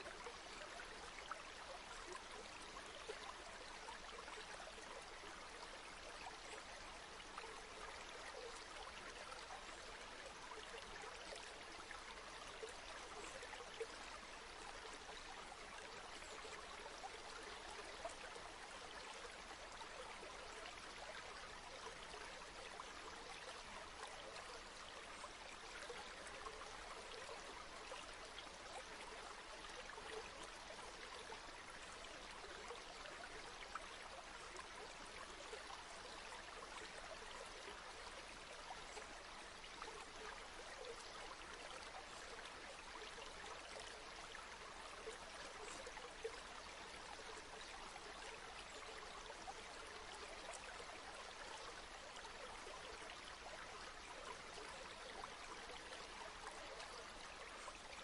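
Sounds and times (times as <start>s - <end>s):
river water flowing and babbling: 0.0s - 58.0s.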